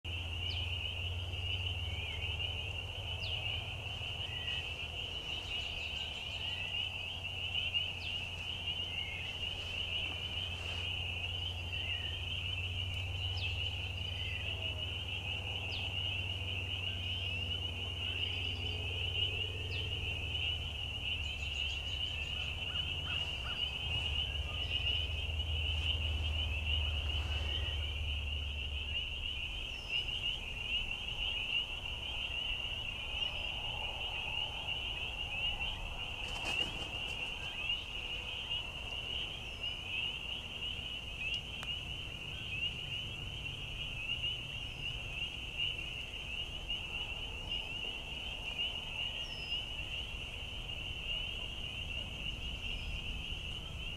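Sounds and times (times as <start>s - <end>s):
steady low rumble: 0.1s - 48.0s
chorus of frogs calling: 0.1s - 53.9s.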